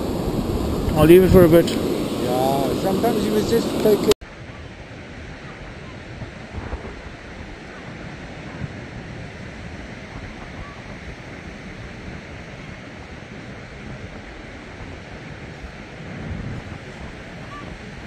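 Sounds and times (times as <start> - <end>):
sea surf washing on beach: 0.0 - 18.0
wind buffeting microphone: 0.0 - 18.0.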